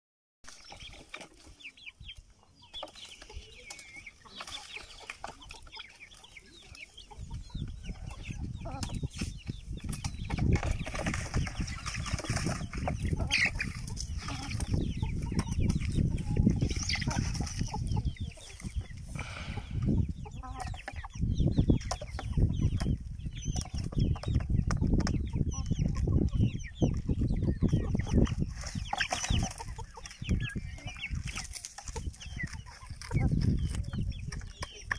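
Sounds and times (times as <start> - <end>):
chickens clucking: 0.5 - 34.9.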